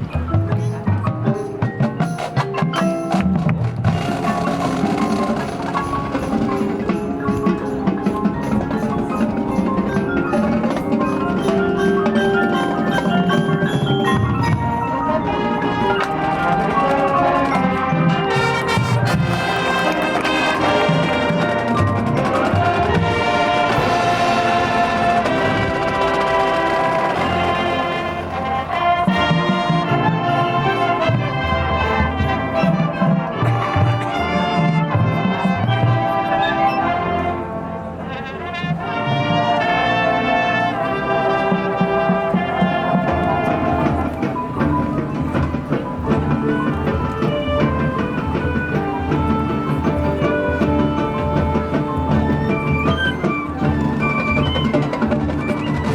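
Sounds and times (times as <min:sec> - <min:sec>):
marching band playing: 0:00.0 - 0:55.9.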